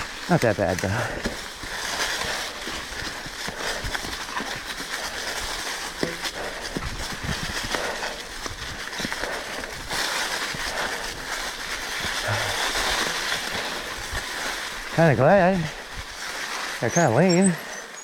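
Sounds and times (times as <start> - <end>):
bike clicking and rattling: 0.0 - 18.0
bike tyres rushing through leaves: 0.0 - 18.0.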